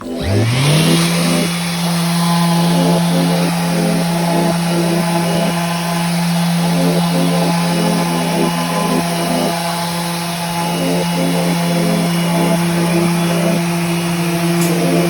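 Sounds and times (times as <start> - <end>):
electric sander motor hum: 0.0 - 15.0.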